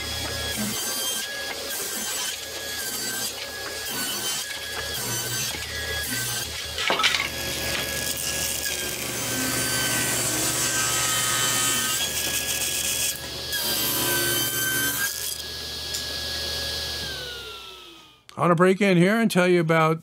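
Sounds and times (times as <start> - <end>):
saw blade cutting wood: 0.0 - 16.2
table saw motor whine: 0.0 - 18.3.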